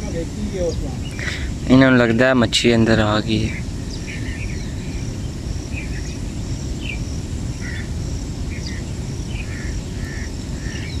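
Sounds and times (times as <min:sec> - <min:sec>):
bird chirps: 0:00.0 - 0:02.1, 0:02.8 - 0:11.0
faint insect buzz: 0:00.0 - 0:11.0.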